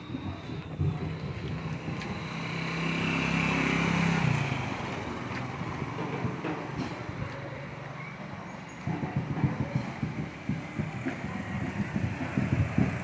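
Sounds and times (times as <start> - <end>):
motorcycle engine passing by: 0.2 - 13.0.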